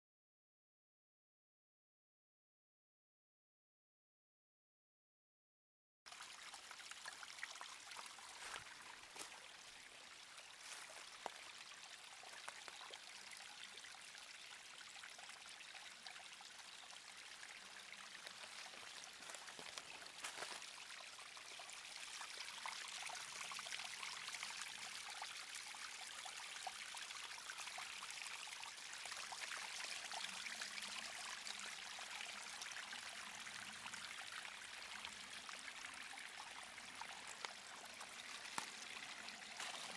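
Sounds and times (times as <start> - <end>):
water trickling over stones: 6.1 - 39.9.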